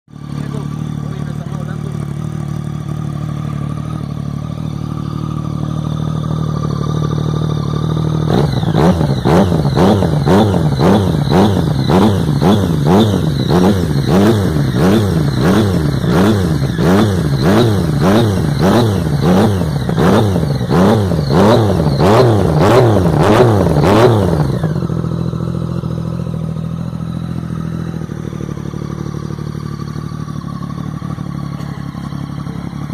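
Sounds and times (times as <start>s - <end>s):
motorcycle engine revving: 0.1s - 32.9s.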